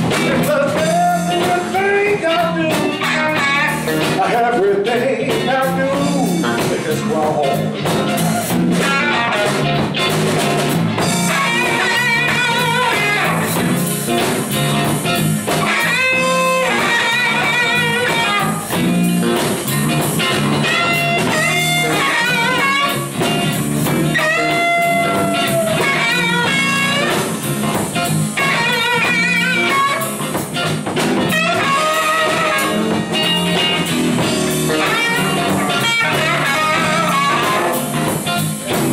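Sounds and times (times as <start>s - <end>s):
bass guitar: 0.0s - 38.9s
drum kit: 0.0s - 38.9s
electric guitar bent notes: 0.0s - 38.9s.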